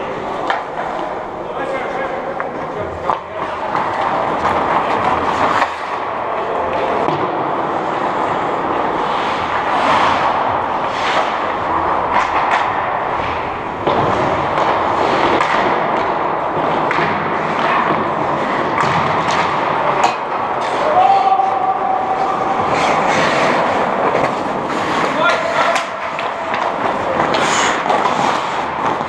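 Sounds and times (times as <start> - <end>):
skates on ice: 0.0 - 29.0
sticks and puck knocking: 2.3 - 8.0, 8.7 - 29.0.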